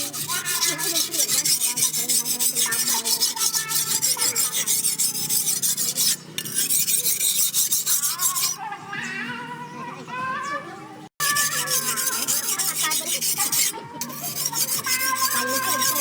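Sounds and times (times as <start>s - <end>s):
file rasping on steel blade: 0.0s - 8.6s, 11.2s - 16.0s.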